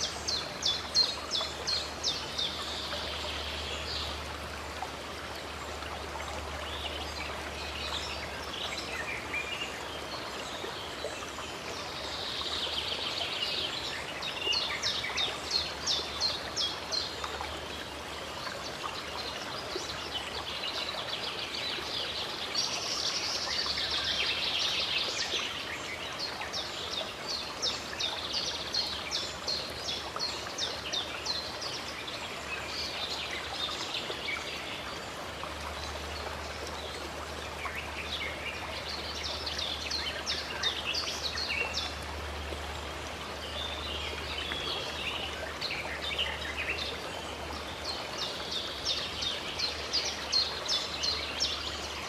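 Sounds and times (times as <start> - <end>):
stream running water: 0.0 - 52.0.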